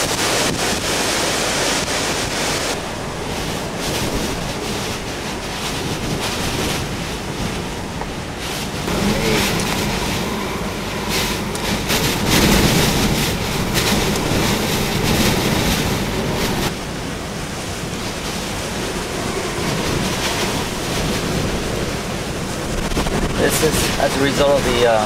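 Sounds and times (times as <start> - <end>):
driving rain: 0.0 - 25.0
hurricane wind: 0.0 - 25.0.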